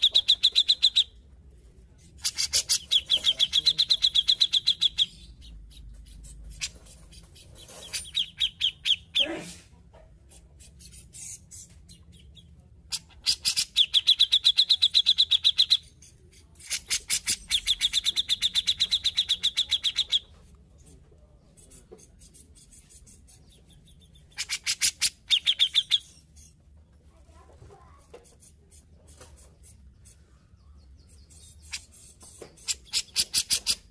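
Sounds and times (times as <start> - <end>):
bird chattering song: 0.0 - 1.2, 1.9 - 9.3, 10.2 - 26.7, 27.9 - 33.9.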